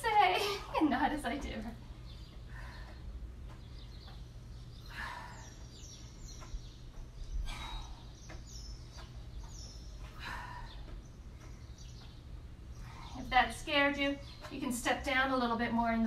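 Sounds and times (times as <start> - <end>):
steady low hum: 0.0 - 16.0
small bird chirping: 1.0 - 16.0.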